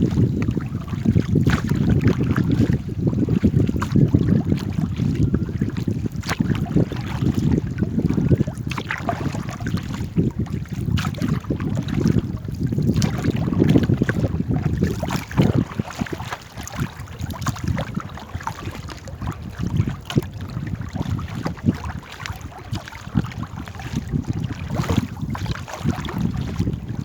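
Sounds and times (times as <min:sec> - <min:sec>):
water splashing around boat: 0:00.0 - 0:27.0
wind rumbling on microphone: 0:00.0 - 0:27.0.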